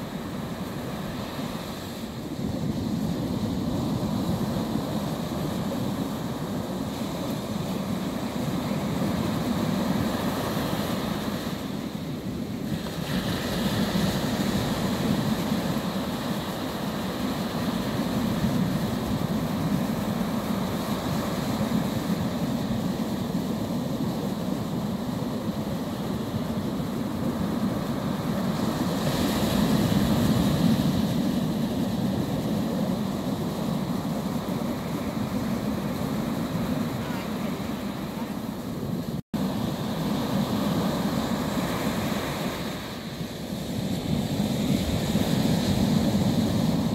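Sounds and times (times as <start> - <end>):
waves washing up a beach: 0.0 - 46.9.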